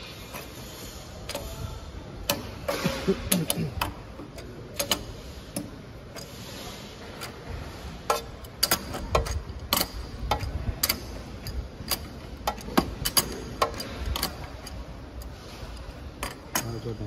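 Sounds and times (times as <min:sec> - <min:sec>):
wrench clicking on metal bolts: 0:01.2 - 0:06.6, 0:08.0 - 0:17.0.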